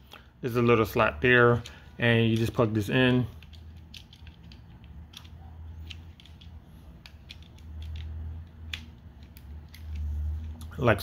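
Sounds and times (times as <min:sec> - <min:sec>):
low background hum: 0:00.0 - 0:11.0
plastic parts clicking: 0:01.5 - 0:10.8.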